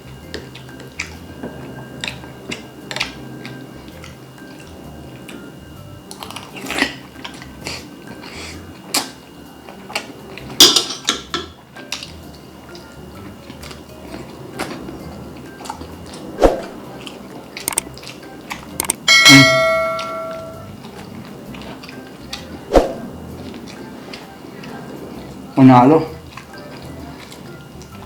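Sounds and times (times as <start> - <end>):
food crunching: 0.0 - 19.1, 20.5 - 25.4, 26.0 - 28.0
faint background music: 0.0 - 28.0.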